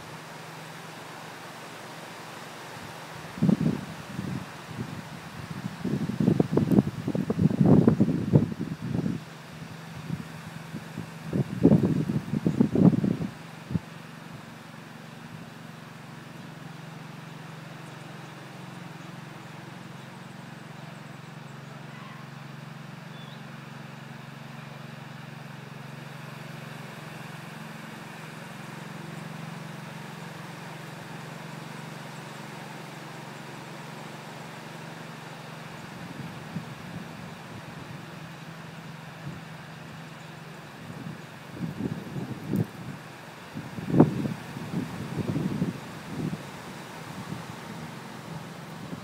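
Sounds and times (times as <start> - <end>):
low motor hum: 0.0 - 49.0.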